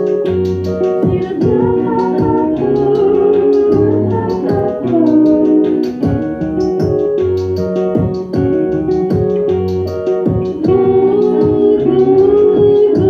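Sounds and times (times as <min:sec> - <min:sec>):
bass line: 0:00.0 - 0:13.0
keyboard sustained chords: 0:00.0 - 0:13.0
regular beat: 0:00.0 - 0:13.0.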